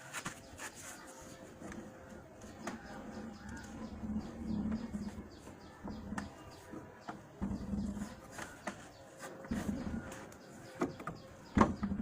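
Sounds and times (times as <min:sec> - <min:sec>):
birds calling: 0:02.0 - 0:12.0.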